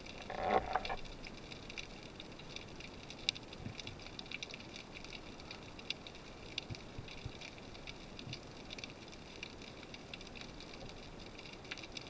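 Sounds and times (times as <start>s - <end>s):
underwater crackle of clicks: 0.0s - 12.0s.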